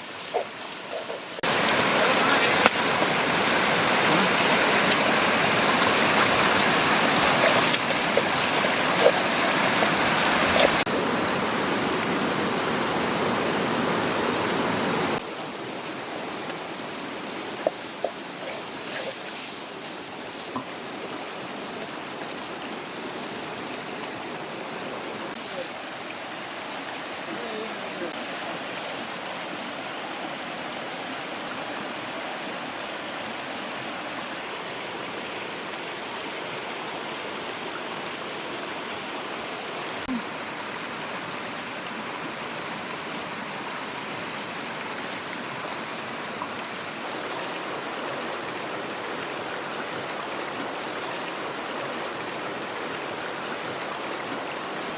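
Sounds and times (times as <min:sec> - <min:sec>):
water flowing over waterfall: 0:00.0 - 0:54.9.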